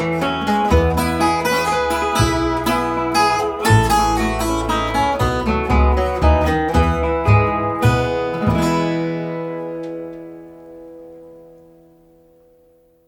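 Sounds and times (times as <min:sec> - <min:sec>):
guitar chord ringing: 0:00.0 - 0:12.6
acoustic guitar picking: 0:00.0 - 0:12.7.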